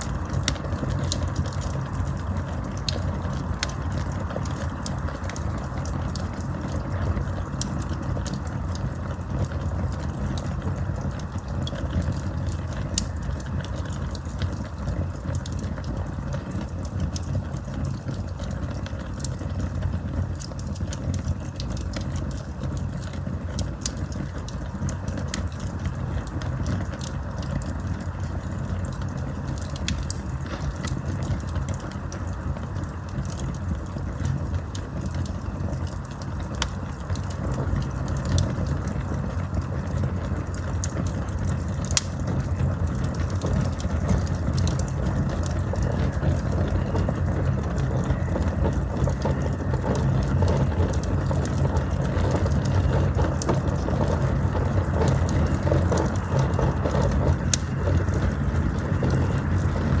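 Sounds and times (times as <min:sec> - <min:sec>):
campfire flames rumbling: 0:00.0 - 1:00.0
fire crackling and popping: 0:00.0 - 1:00.0.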